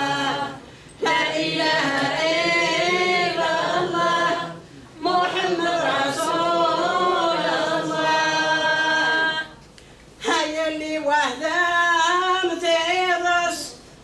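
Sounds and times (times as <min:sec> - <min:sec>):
woman singing a religious chant: 0:00.0 - 0:09.6, 0:10.2 - 0:13.8.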